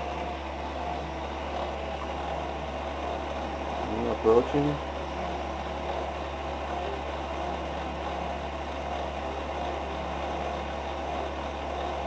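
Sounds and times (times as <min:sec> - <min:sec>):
lathe motor hum: 0:00.0 - 0:12.0.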